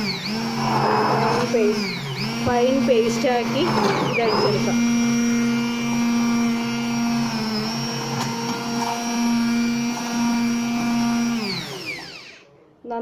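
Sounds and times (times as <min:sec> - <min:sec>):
immersion blender running: 0:00.0 - 0:12.5.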